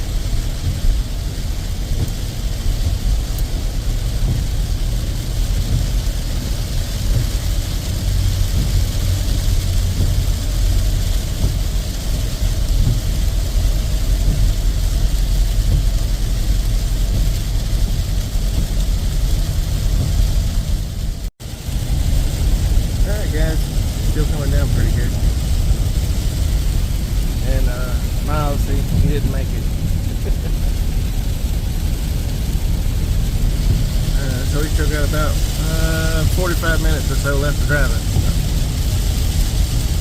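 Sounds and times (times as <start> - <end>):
rain hiss on wet road: 0.0 - 40.0
vehicle road and engine rumble: 0.0 - 40.0.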